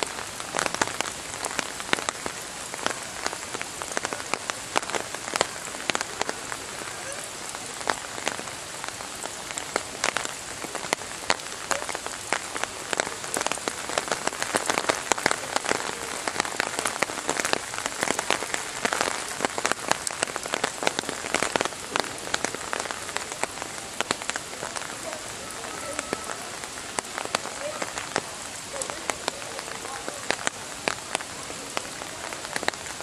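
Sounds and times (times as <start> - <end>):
rain falling: 0.0 - 33.0
raindrops clicking on hard surfaces: 0.0 - 33.0.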